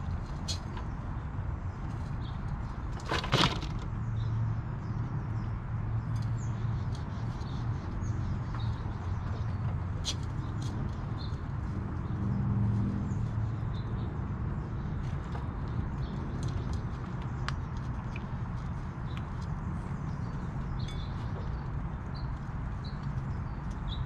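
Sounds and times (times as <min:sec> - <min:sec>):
squirrels scrabbling and nibbling: 0:00.0 - 0:24.0.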